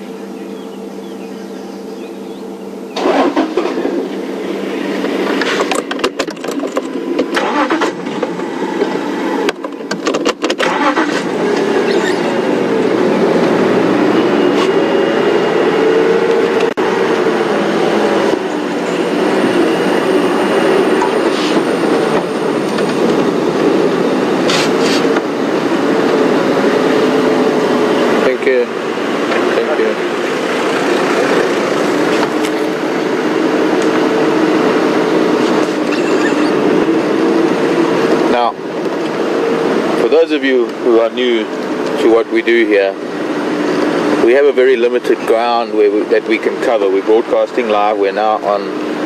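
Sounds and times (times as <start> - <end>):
vehicle engine driving off-road: 0.0 - 49.0.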